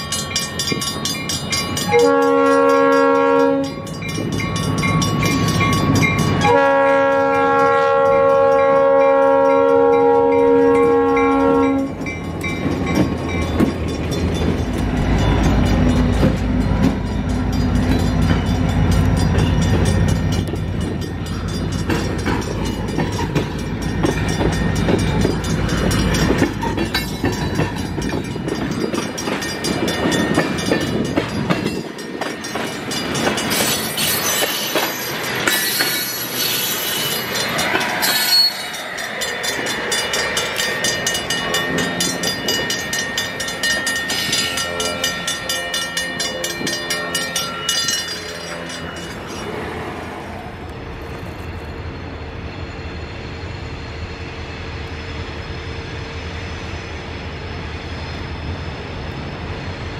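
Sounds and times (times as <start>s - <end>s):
high tone from train wheels: 0.0s - 59.9s
locomotive rumble: 0.0s - 59.9s.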